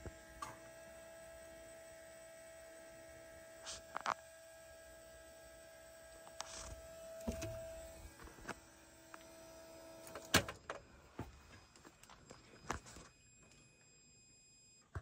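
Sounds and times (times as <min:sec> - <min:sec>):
faint electrical whine: 0:00.0 - 0:15.0.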